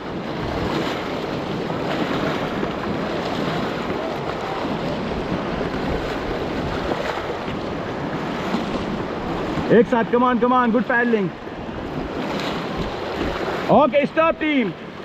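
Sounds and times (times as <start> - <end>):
wind buffeting microphone: 0.0 - 13.7
rushing white water: 0.0 - 15.0.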